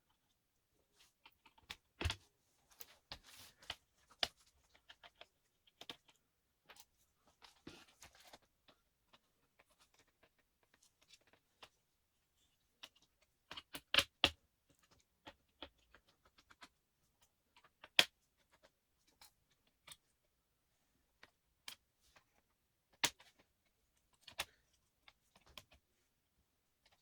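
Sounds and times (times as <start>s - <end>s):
small clicks and taps of laptop parts: 1.2s - 11.8s, 12.8s - 20.1s, 21.2s - 25.9s, 26.8s - 27.0s.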